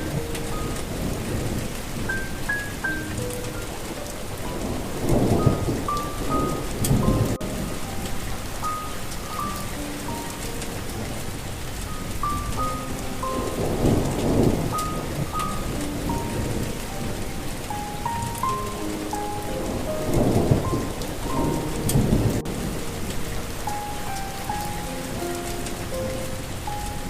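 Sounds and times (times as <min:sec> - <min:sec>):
soft melody of single notes: 0:00.0 - 0:27.0
steady rain: 0:00.0 - 0:27.0
thunder rolling: 0:00.0 - 0:27.0.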